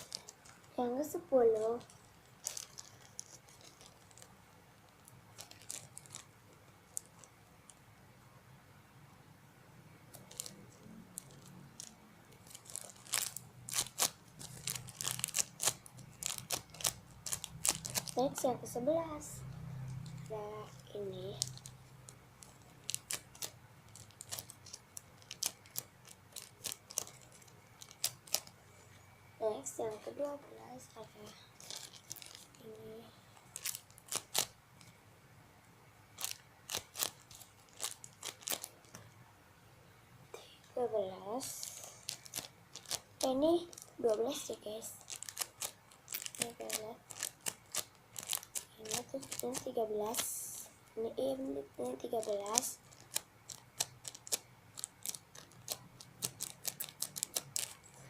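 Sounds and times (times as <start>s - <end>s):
squishy toy crinkling and crackling: 0.0s - 7.8s, 10.1s - 28.6s, 29.6s - 35.0s, 36.1s - 39.2s, 41.3s - 58.0s.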